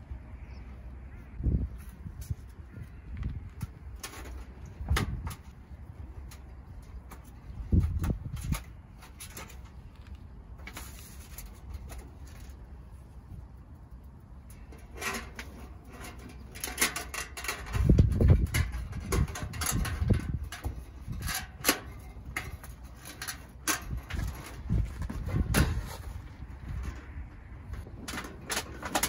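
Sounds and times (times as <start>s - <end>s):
wind rumbling on microphone: 0.0s - 29.0s
metal stovepipe clicking and scraping: 3.5s - 9.9s, 10.6s - 12.8s, 14.0s - 29.0s.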